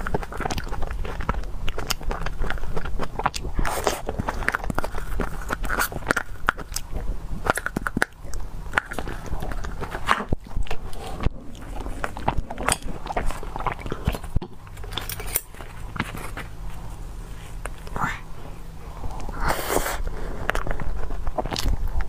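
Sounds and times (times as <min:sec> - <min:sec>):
chewing and lip smacking: 0:00.0 - 0:18.3, 0:19.0 - 0:22.0.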